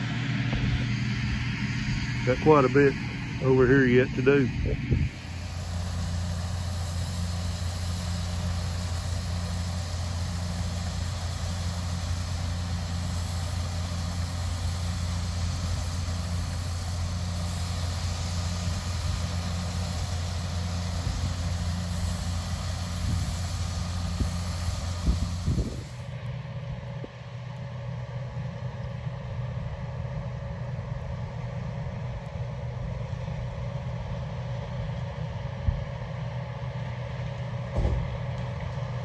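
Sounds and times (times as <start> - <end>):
diesel engine droning: 0.0 - 39.0.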